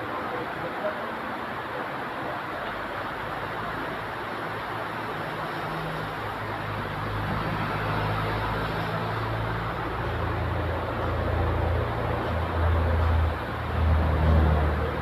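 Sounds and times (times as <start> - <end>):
truck engines droning: 0.0 - 15.0.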